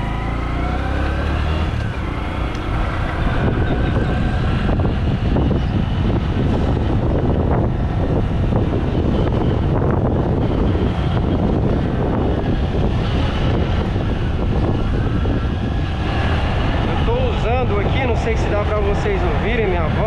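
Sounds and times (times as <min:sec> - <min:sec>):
motorcycle engine pulling away: 0:00.0 - 0:17.0
wind rush on microphone: 0:00.0 - 0:20.0.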